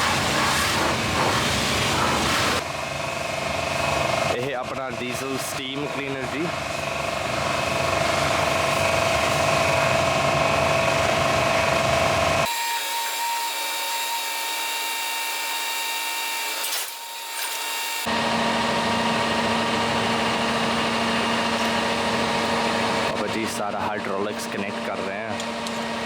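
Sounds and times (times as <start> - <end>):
steam cleaner whining: 0.0 - 2.7, 3.4 - 26.0.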